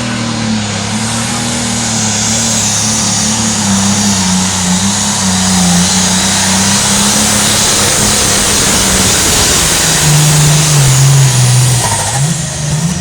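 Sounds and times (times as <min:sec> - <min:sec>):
tractor engine at high revs: 0:00.0 - 0:13.0.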